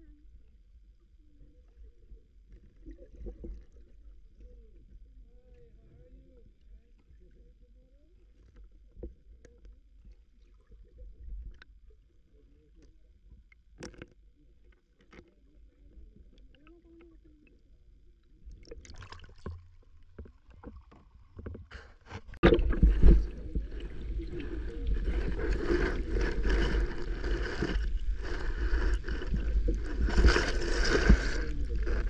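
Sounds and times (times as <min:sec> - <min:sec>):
water sloshing and gurgling: 0:00.0 - 0:32.0.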